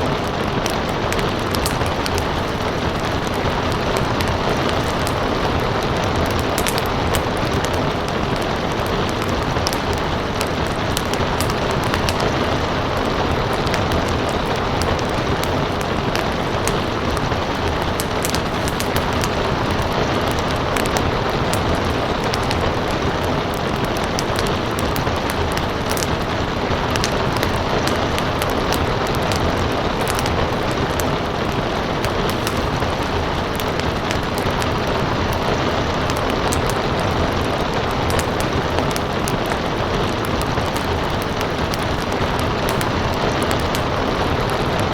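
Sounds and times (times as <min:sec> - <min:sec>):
fire crackling and popping: 0:00.0 - 0:44.9
steady rain: 0:00.0 - 0:44.9.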